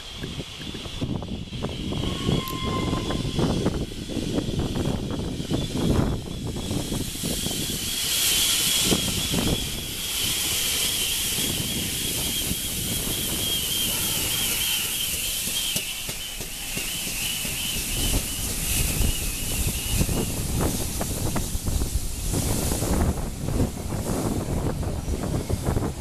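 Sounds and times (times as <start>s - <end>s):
high-pitched squeal: 0.0s - 21.8s
steam hissing: 0.0s - 26.0s.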